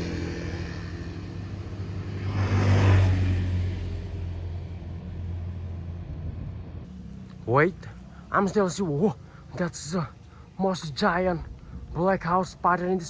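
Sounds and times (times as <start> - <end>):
passing vehicle engine hum: 0.0 - 10.6.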